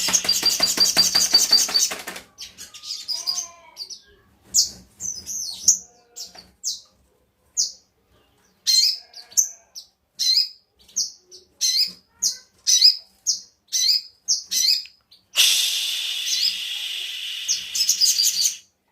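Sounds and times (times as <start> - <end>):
bird chirping: 0.0 - 6.9, 7.6 - 18.7.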